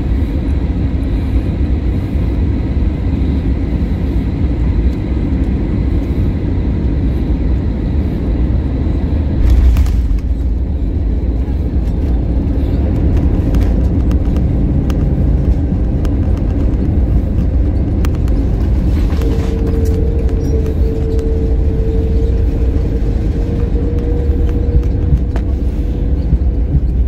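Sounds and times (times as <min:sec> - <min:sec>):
airliner wheels and engines rumbling: 0:00.0 - 0:27.0
steady whine: 0:00.0 - 0:27.0.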